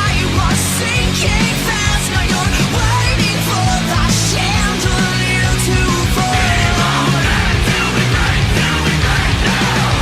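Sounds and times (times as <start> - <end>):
rock music with distorted guitar: 0.0 - 10.0.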